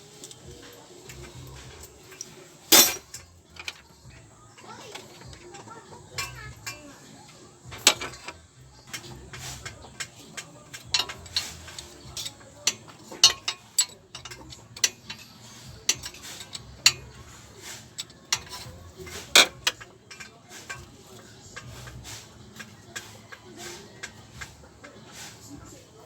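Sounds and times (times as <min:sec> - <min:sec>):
metallic clinks of hand tools: 0:00.1 - 0:07.0, 0:07.7 - 0:24.5.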